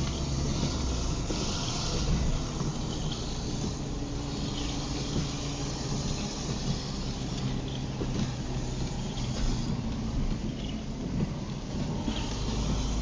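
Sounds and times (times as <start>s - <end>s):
car engine hum: 0.0s - 13.0s
tyres hissing on wet road: 0.0s - 13.0s.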